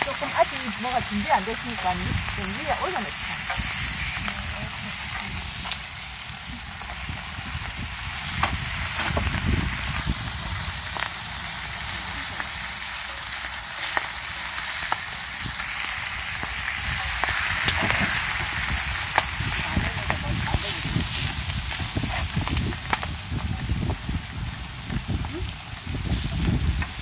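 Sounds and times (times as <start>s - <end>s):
meat sizzling on a griddle: 0.0s - 27.0s.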